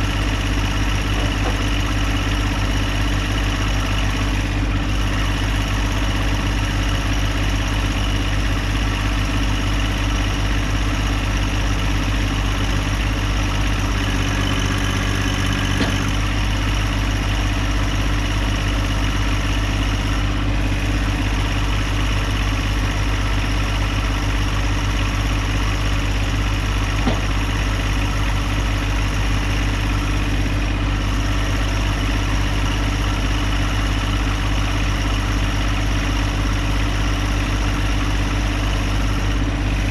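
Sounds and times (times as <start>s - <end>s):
sawmill gas engine running: 0.0s - 39.9s.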